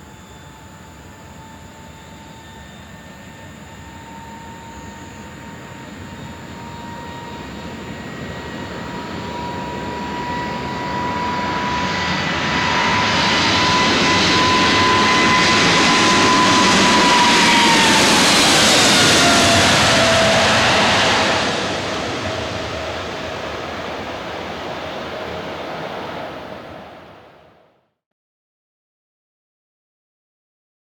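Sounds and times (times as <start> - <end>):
jet engines roaring at takeoff: 0.0 - 27.6.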